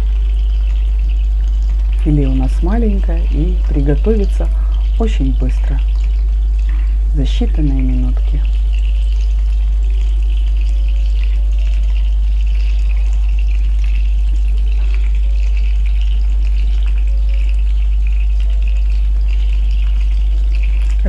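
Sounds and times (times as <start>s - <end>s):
constant low hum: 0.0s - 21.0s
fish frying in a pan: 0.0s - 21.0s.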